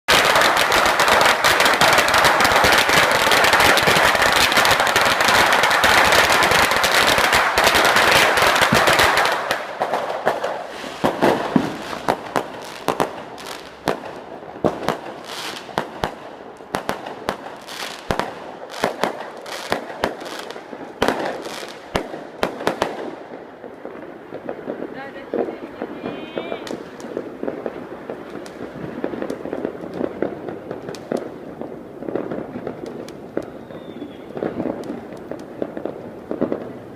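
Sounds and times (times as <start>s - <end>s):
firecrackers popping and banging: 0.1s - 36.9s.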